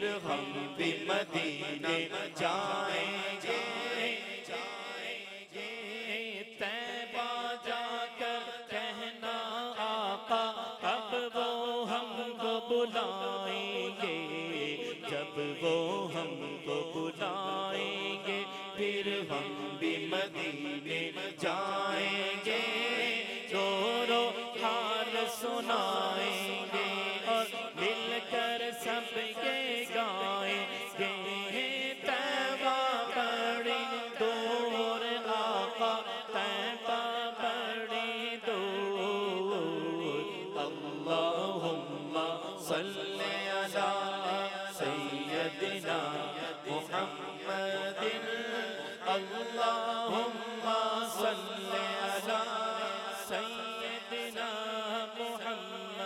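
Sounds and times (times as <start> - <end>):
man singing devotional song: 0.0 - 56.0.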